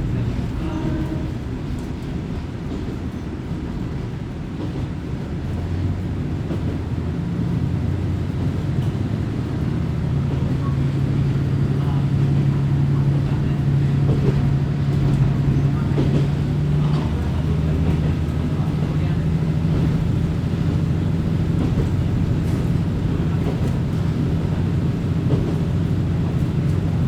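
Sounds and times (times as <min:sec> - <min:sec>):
diesel railcar engine: 0:00.0 - 0:27.0
wheels rumbling on track: 0:00.0 - 0:27.0.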